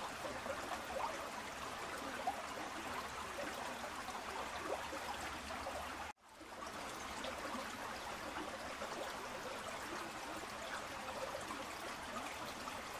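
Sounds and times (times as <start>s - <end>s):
stream water flowing: 0.0s - 12.9s.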